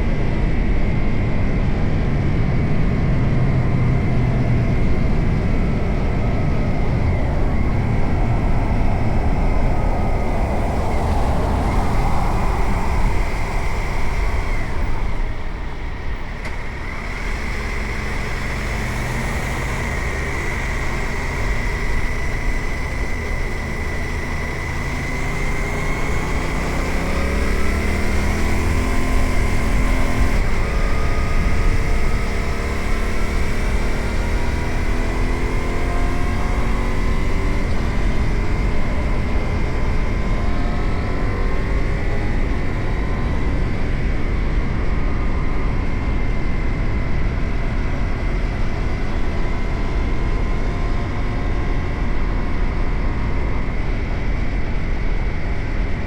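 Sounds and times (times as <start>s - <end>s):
wind rushing over microphone: 0.0s - 56.0s
motorcycle engine running: 1.0s - 55.8s.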